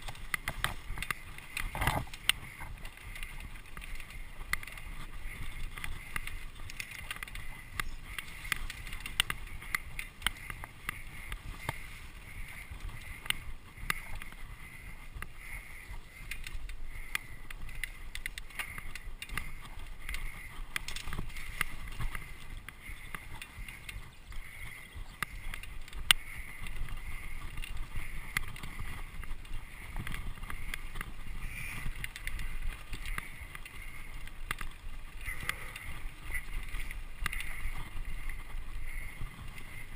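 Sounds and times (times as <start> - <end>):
bike clicks and rattles: 0.0 - 39.9
low wind rumble on microphone: 0.0 - 39.9.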